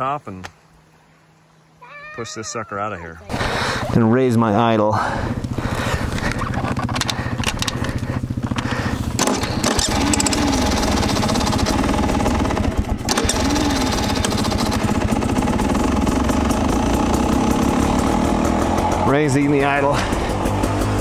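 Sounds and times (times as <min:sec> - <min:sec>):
dirt bike engine idling: 0:03.2 - 0:21.0.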